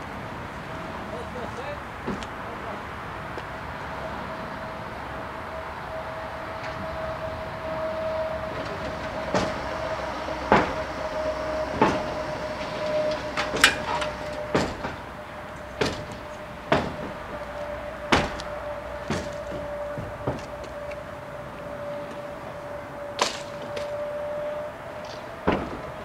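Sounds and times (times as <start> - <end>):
steady electronic warning tone: 3.6 - 26.0.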